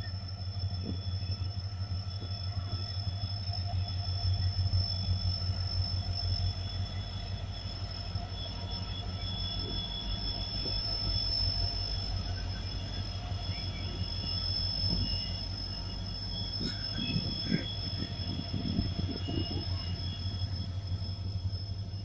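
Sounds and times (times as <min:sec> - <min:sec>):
locomotive engine low rumble: 0:00.0 - 0:22.0.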